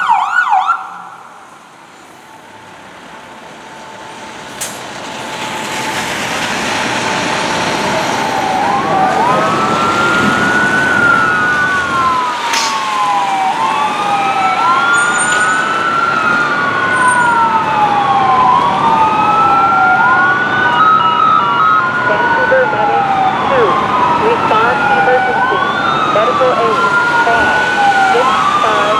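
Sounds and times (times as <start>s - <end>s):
wailing fire truck sirens: 0.0s - 28.9s.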